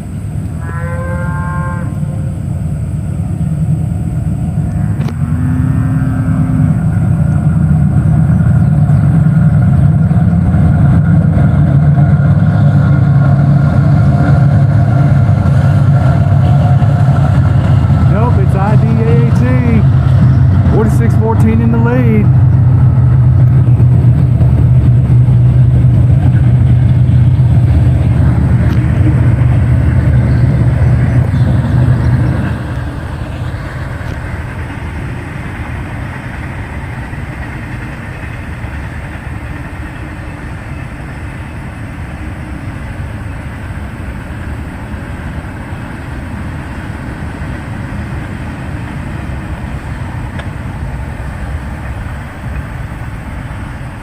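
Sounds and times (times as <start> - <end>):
diesel locomotive engines droning: 0.0 - 54.0
freight cars rolling past: 0.0 - 54.0.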